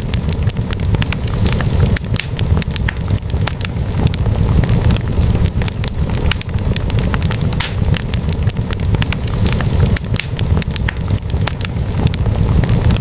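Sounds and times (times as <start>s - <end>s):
logs crackling and popping: 0.0s - 13.0s
low rumble of flame: 0.0s - 13.0s.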